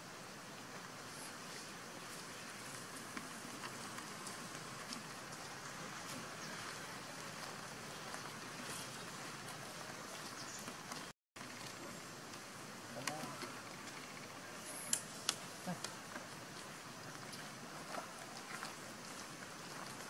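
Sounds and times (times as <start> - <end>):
faint ticks and crackles: 0.0 - 20.0
outdoor background hiss: 0.0 - 20.0.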